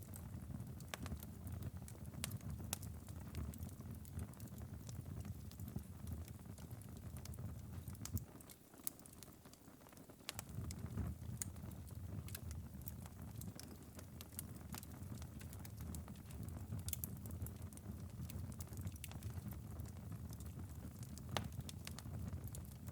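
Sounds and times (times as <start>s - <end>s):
fire embers crackling: 0.0s - 22.9s.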